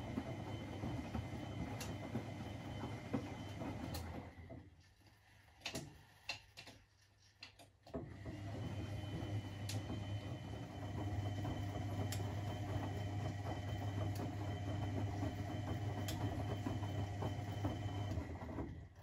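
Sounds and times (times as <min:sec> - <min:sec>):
washing machine motor humming: 0:00.0 - 0:04.8, 0:08.0 - 0:19.0.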